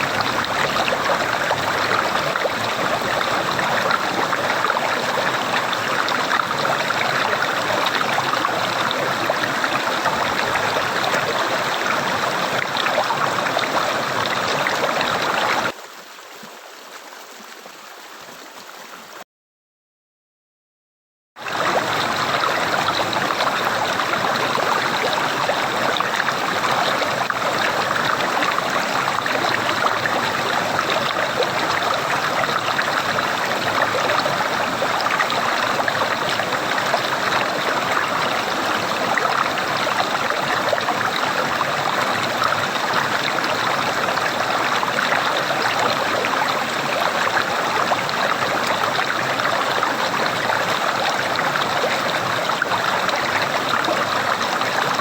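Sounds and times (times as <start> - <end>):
water gurgling and rushing: 0.0 - 18.8, 21.4 - 55.0
quiet thin water sound: 0.0 - 19.2, 21.4 - 55.0.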